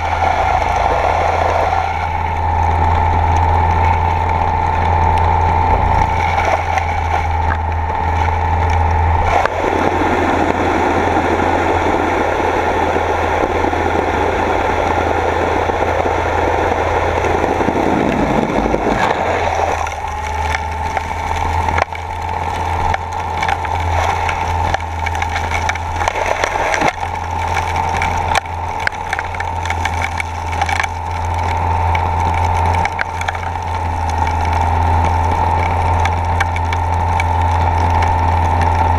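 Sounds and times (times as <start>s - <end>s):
rushing water wash: 0.0s - 38.9s
underwater pump hum and whine: 0.0s - 38.9s.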